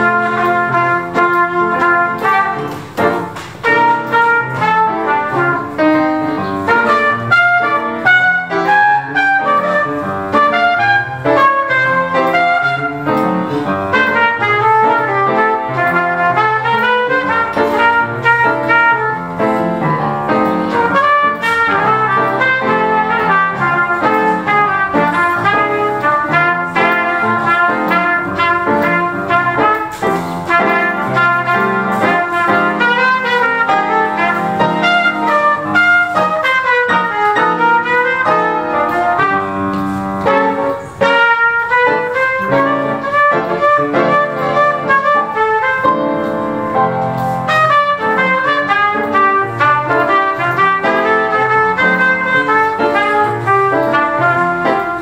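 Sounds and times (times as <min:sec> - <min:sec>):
piano accompaniment: 0:00.0 - 0:55.0
trumpet jazz solo: 0:00.0 - 0:55.0.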